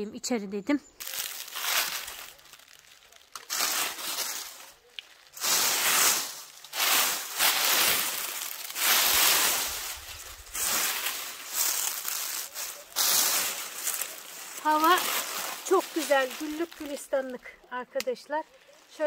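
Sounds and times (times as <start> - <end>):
dry leaves crackling and rustling: 1.0 - 19.0.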